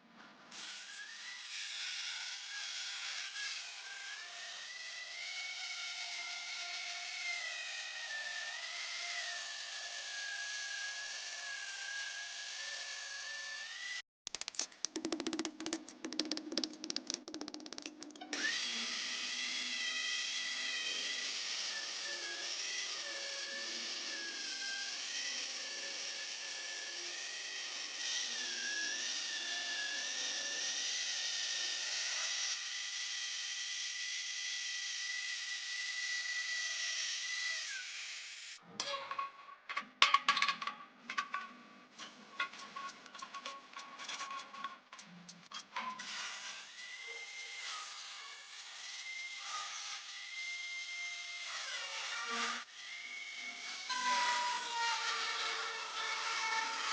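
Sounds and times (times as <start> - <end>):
electric grinder on steel: 0.5 - 14.0, 17.7 - 38.6, 45.8 - 56.9.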